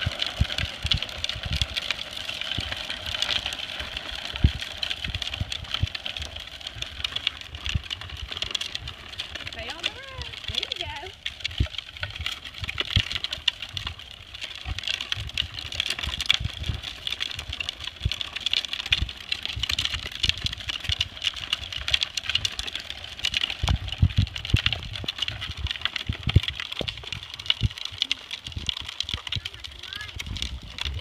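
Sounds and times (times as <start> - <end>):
plastic wheels rattling on asphalt: 0.0 - 31.0.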